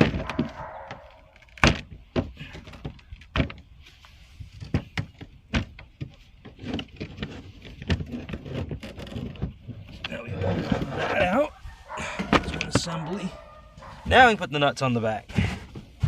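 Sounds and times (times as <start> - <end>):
hardware knocking and clunking: 0.0 - 3.7, 4.4 - 11.2, 12.0 - 14.4.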